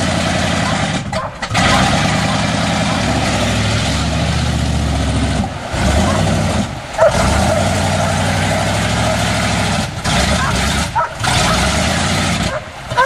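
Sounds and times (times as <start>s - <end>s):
truck engine running steadily: 0.0s - 13.0s.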